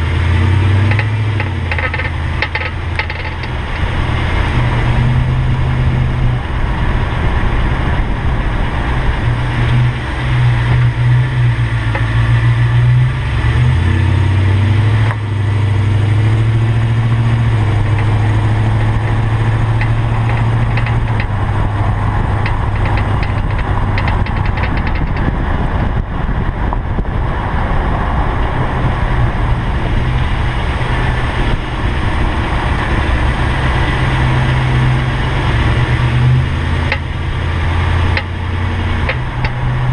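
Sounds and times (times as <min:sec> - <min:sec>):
pickup engine humming: 0:00.0 - 0:39.9.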